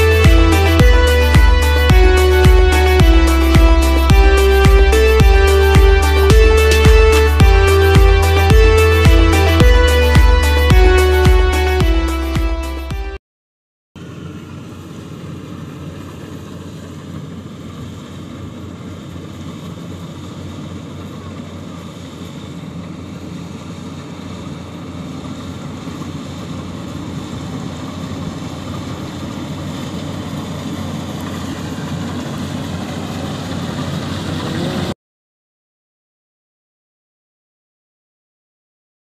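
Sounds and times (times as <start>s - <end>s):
combine harvester engine drone: 0.0s - 13.2s, 14.0s - 35.0s.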